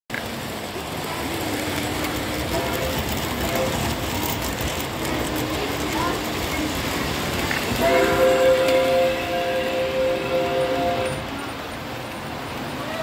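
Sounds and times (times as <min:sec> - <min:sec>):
model train wheels rattling: 0:00.1 - 0:12.6.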